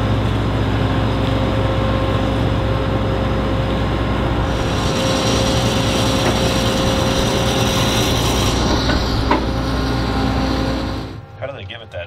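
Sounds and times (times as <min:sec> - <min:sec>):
diesel engine running: 0:00.0 - 0:11.3.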